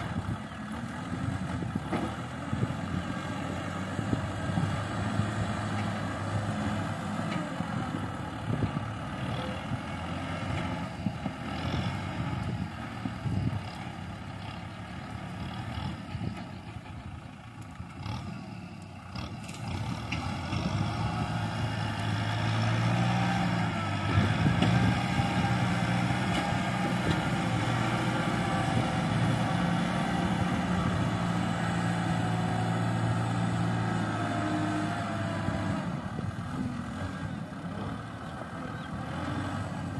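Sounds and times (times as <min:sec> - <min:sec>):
tractor diesel engine working: 0:00.0 - 0:39.9.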